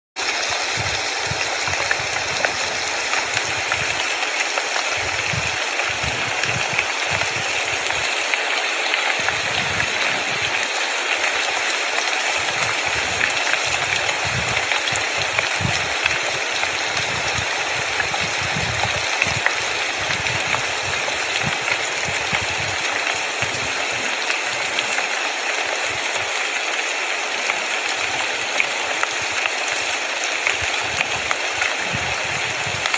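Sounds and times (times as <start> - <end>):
steady rushing hiss: 0.2 - 32.9.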